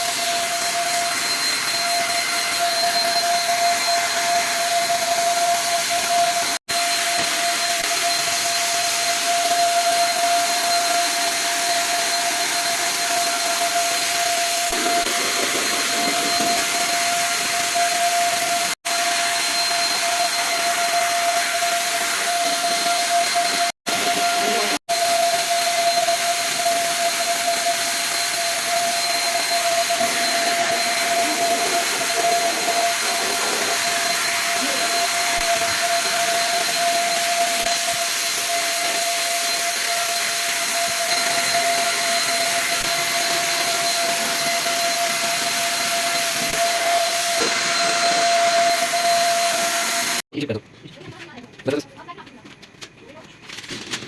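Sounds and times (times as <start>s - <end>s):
power tool motor running: 0.0s - 50.3s.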